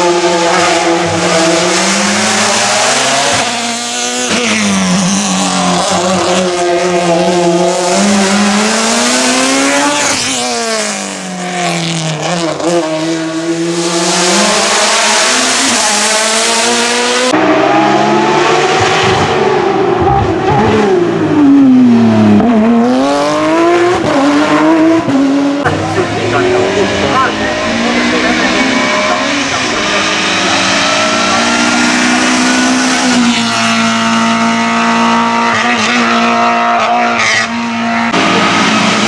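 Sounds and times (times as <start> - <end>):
race car engine at full throttle: 0.0 - 39.0.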